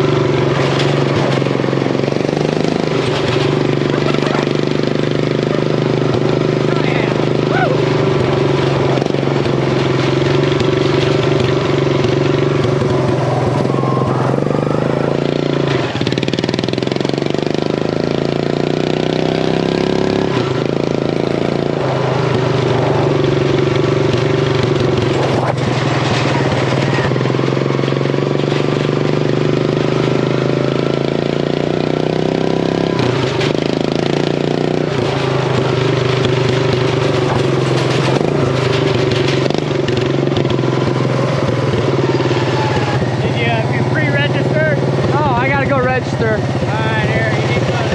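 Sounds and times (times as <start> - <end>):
riding mower engine running hard: 0.0 - 47.9.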